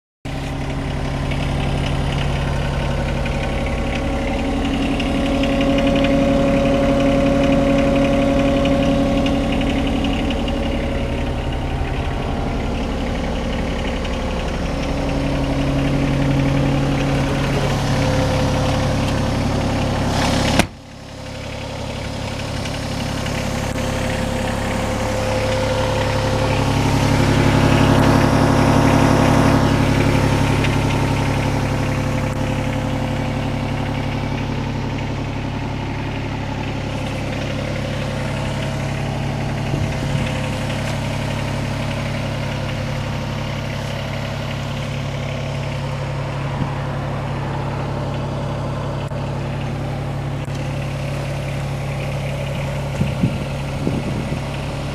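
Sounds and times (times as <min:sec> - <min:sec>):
diesel excavator engine idling: 0:00.3 - 0:54.9.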